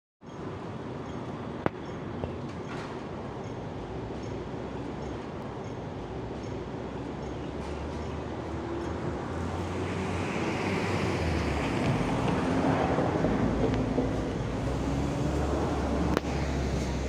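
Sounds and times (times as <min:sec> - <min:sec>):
traffic running: 0:00.4 - 0:17.0.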